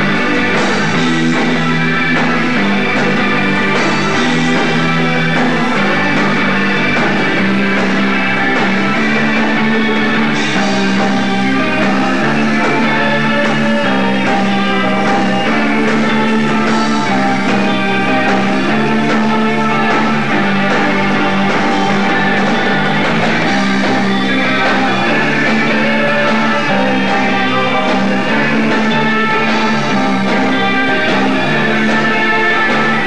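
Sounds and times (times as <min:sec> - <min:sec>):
drums: 0:00.0 - 0:33.0
electric guitar: 0:00.0 - 0:33.0.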